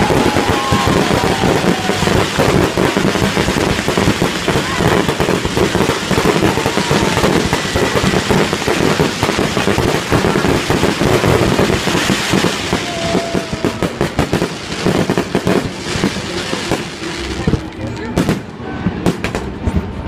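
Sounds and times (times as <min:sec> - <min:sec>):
fireworks bangs: 0:00.0 - 0:20.0
fireworks crackling pops: 0:00.0 - 0:20.0.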